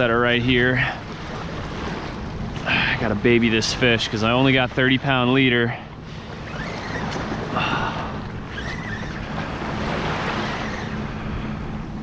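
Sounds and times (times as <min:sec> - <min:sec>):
small waves lapping: 0:00.0 - 0:12.0.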